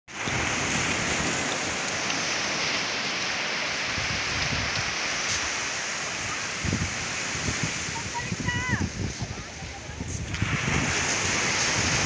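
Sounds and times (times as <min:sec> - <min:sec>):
small waves breaking on beach: 0:00.1 - 0:12.0.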